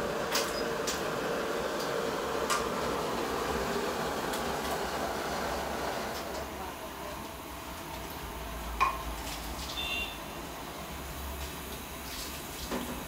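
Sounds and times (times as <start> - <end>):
gas burners burning: 0.0 - 13.0.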